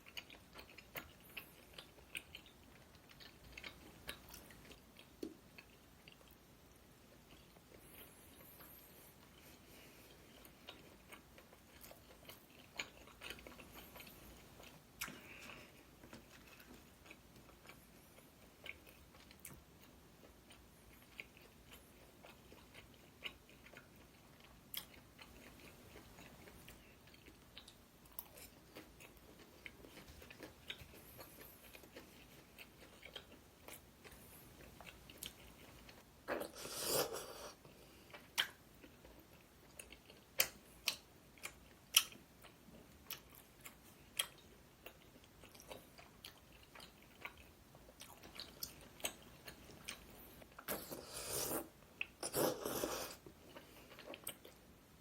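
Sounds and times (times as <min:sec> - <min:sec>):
chewing and biting: 0:00.0 - 0:06.4, 0:07.1 - 0:37.5, 0:38.1 - 0:54.6.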